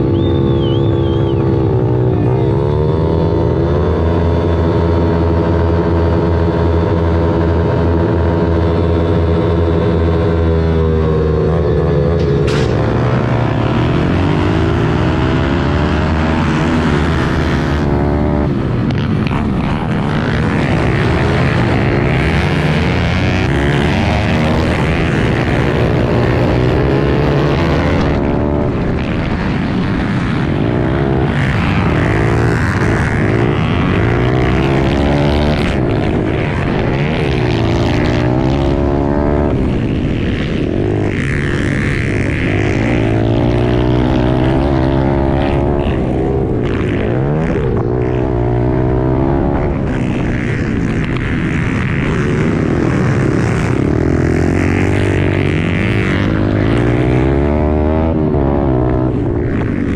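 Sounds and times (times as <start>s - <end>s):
other motorbike engines: 0.0s - 59.9s
pit bike engine revving: 0.0s - 59.9s.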